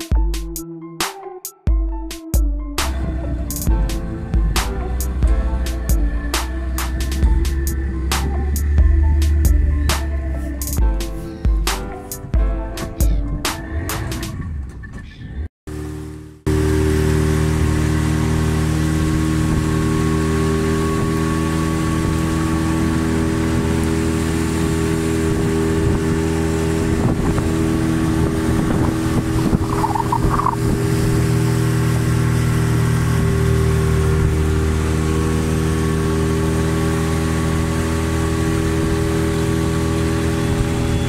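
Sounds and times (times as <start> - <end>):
outboard motor running: 2.9 - 11.6, 15.7 - 41.0.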